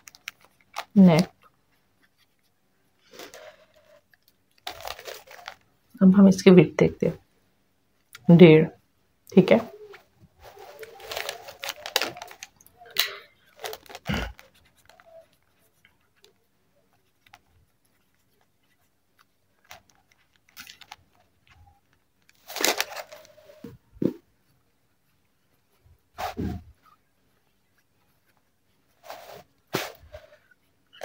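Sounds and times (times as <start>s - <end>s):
paper and cloth rustling: 2.0s - 5.7s, 9.4s - 31.0s.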